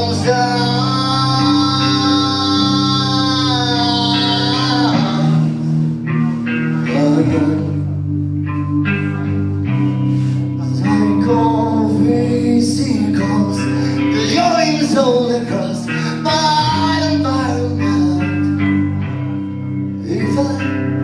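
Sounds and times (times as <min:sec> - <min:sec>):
live band playing: 0:00.0 - 0:21.0
person singing: 0:00.0 - 0:21.0.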